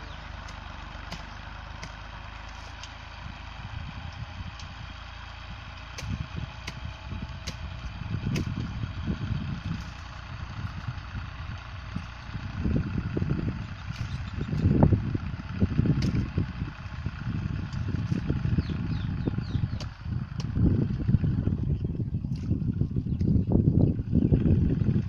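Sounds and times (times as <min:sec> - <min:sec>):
low rumbles: 0:00.0 - 0:25.0
tractor diesel engine running: 0:00.0 - 0:25.0.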